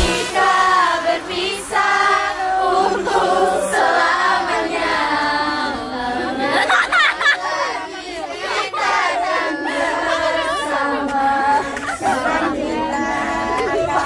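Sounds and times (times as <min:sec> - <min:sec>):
girls singing in chorus: 0:00.0 - 0:14.0.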